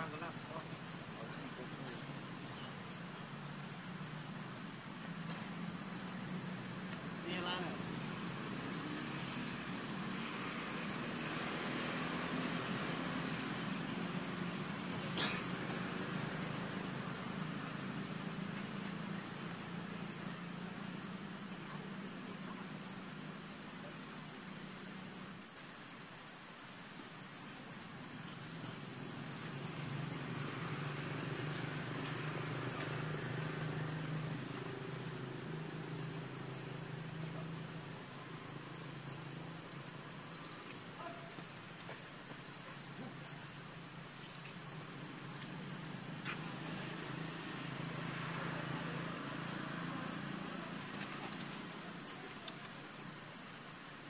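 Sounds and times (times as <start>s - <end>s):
high-pitched insect drone: 0.0s - 54.0s
soft insect chirps: 0.0s - 54.0s.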